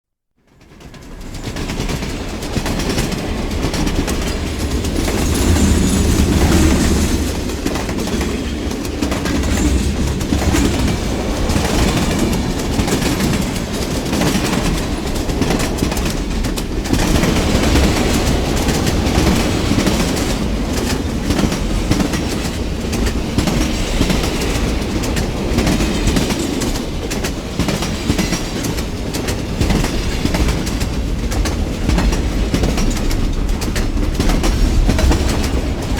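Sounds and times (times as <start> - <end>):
train wheels clacking over rails: 0.4 - 35.9.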